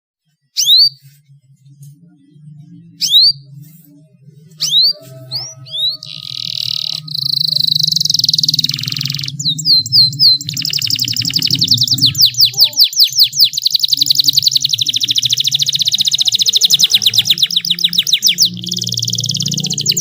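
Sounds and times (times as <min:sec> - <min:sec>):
canary singing: 0:00.2 - 0:20.0.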